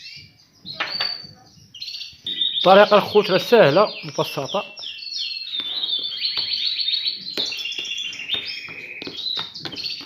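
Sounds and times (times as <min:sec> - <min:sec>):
finches singing in trills: 0:00.0 - 0:10.0.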